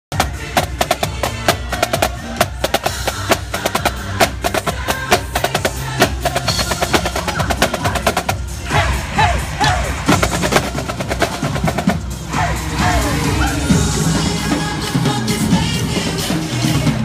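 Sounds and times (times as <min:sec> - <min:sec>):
marching snare drum rolls: 0:00.1 - 0:17.0
parade music with melody: 0:00.1 - 0:17.0.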